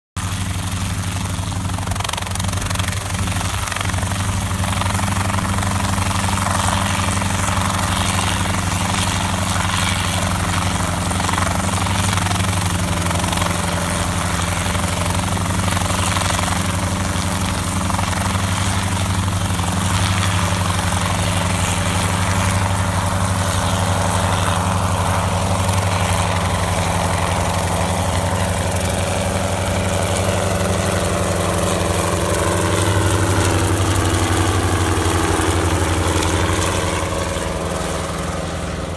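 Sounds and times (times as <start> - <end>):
helicopter engine drone: 0.2 - 38.9
helicopter rotor blades beating: 0.2 - 38.9.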